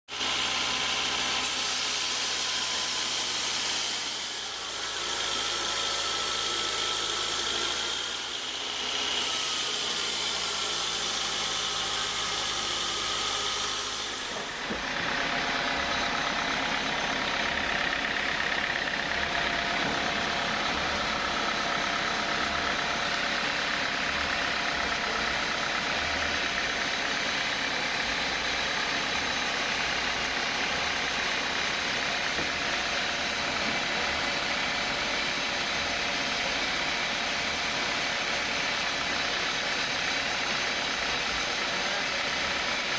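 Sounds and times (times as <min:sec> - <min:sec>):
sawmill machinery drone: 0:00.1 - 0:42.9.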